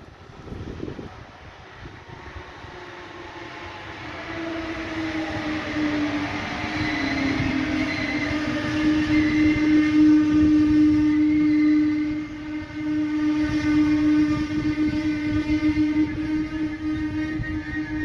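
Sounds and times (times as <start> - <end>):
electric train whining: 0.0 - 18.0.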